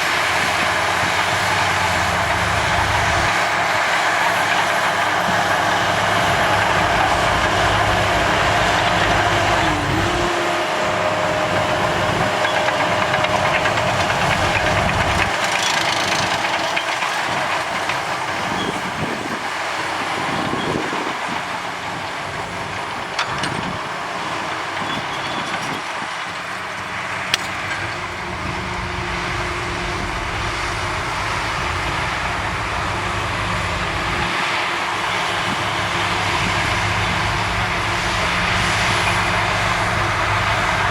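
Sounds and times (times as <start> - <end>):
heavy diesel machinery engine drone: 0.0 - 40.9.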